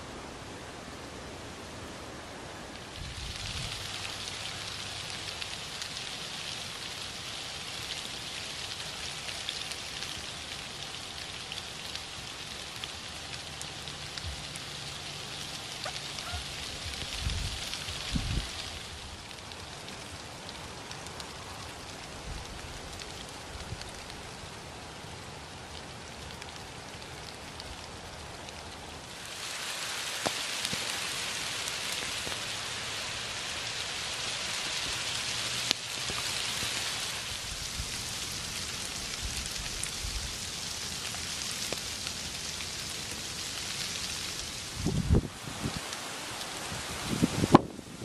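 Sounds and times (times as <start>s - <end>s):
rain on leaves: 0.0s - 48.0s.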